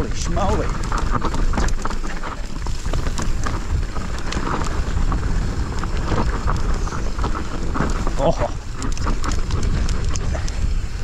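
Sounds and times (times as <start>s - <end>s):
bike tyres rattling on dirt: 0.0s - 11.0s
wind rumbling on microphone: 0.0s - 11.0s
small clicks and knocks: 0.4s - 10.6s.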